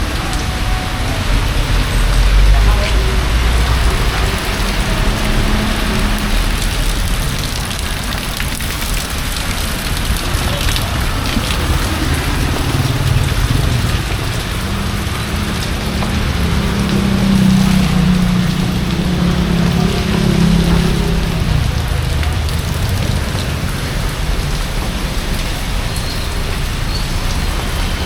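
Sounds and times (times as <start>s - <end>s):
rain falling: 0.0s - 28.0s
vehicle engine hum: 0.0s - 28.0s.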